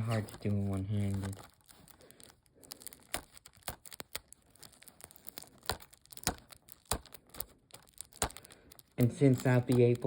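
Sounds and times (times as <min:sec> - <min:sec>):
plastic shrink wrap crinkling: 0:00.0 - 0:10.0.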